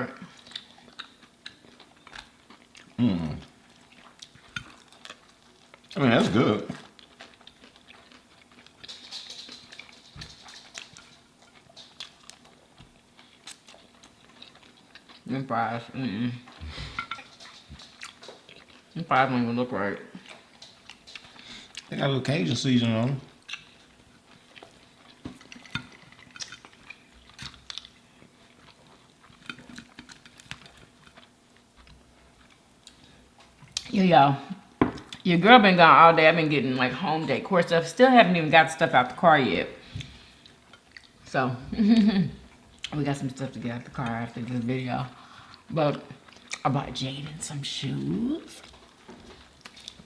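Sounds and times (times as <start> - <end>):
chewing and crunching: 0.0 - 34.0, 39.0 - 50.0.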